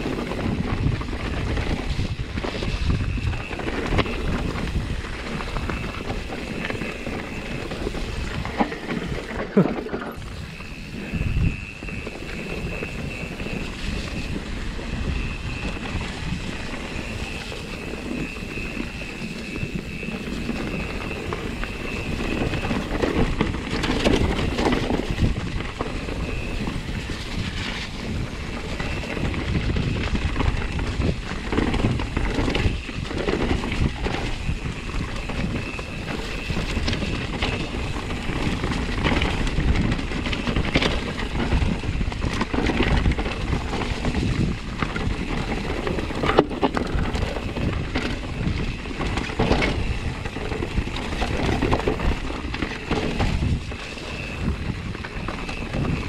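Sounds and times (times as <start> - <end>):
bike rattling over bumps: 0.0 - 56.0
bike tyres rumbling over ground: 0.0 - 56.0
high-pitched whine: 0.0 - 56.0
wind on microphone: 0.0 - 56.0.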